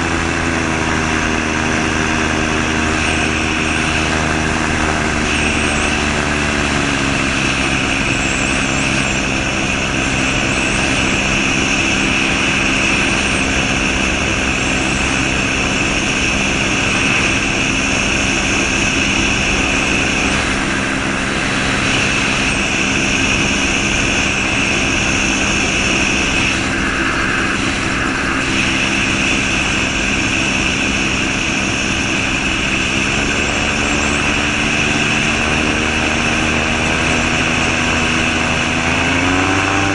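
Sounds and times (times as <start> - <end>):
gyrocopter engine drone: 0.0 - 39.9.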